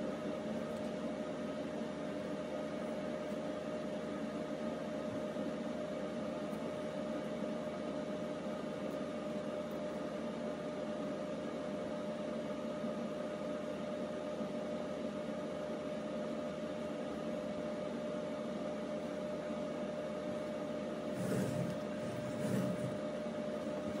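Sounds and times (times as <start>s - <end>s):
steady hum and hiss: 0.0s - 24.0s.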